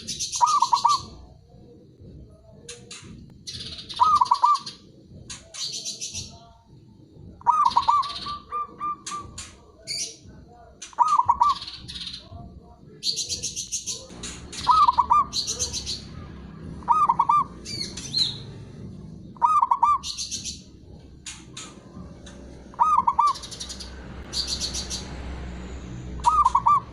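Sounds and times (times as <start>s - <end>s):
high-pitched bird chirping: 0.0s - 1.3s, 2.7s - 6.5s, 7.4s - 10.2s, 10.8s - 12.3s, 13.0s - 18.6s, 19.2s - 25.2s, 26.1s - 26.9s
dove cooing: 0.0s - 3.0s, 3.6s - 5.6s, 7.3s - 12.4s, 13.6s - 24.7s, 26.2s - 26.9s.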